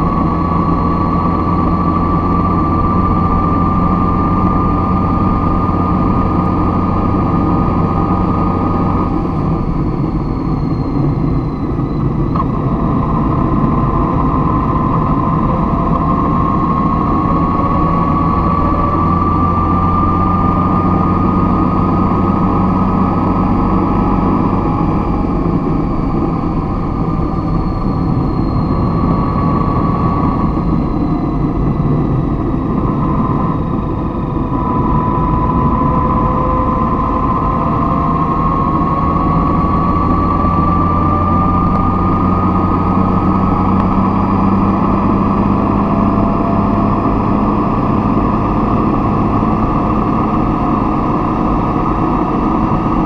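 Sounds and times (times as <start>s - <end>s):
engine whine rising and falling: 0.0s - 53.0s
vehicle engine running: 0.0s - 53.0s.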